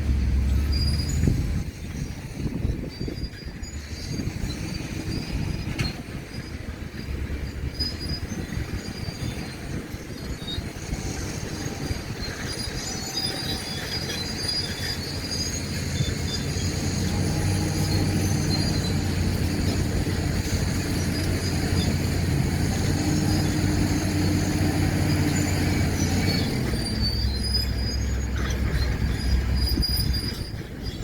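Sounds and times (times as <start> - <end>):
diesel engine rumble: 0.0 - 31.0
steel tracks squealing: 0.0 - 31.0.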